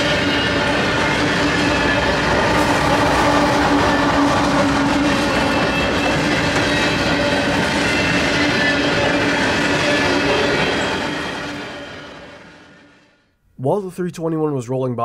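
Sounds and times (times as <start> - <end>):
freight train wheels rumbling on rails: 0.0 - 13.1.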